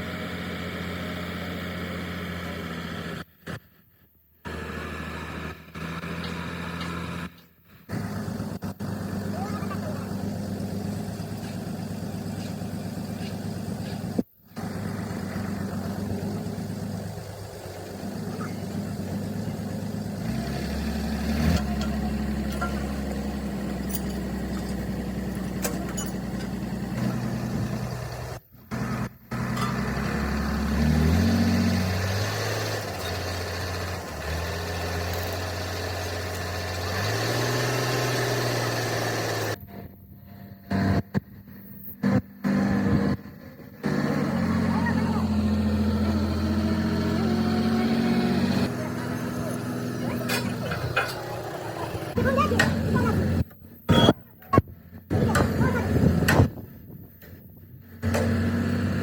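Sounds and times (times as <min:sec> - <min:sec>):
heavy machinery humming: 0:07.9 - 0:56.7.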